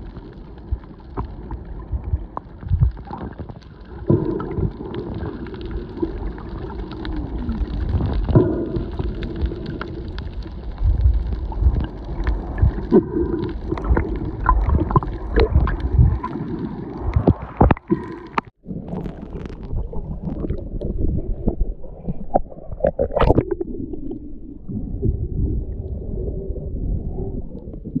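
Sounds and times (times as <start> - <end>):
muffled underwater rumble: 0.0 - 28.0
underwater bubbling: 0.0 - 28.0
underwater clicks and crackles: 0.0 - 28.0.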